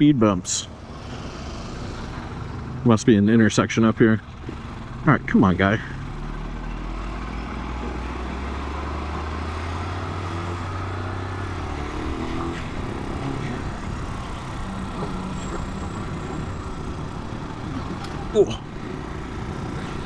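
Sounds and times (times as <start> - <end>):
wind and road noise: 0.0 - 20.0
motorcycle engine running: 0.6 - 7.0, 7.8 - 20.0.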